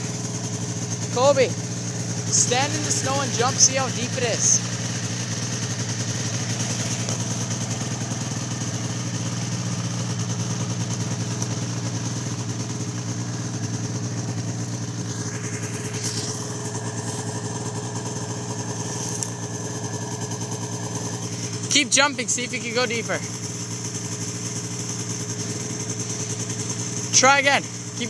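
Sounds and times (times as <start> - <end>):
snowmobile engine idling: 0.0 - 28.0.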